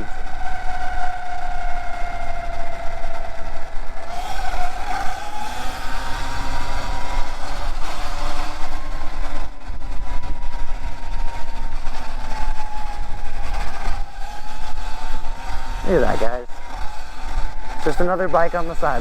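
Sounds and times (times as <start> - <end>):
electric motor whining: 0.0 - 19.0
wind and riding rumble: 0.0 - 19.0.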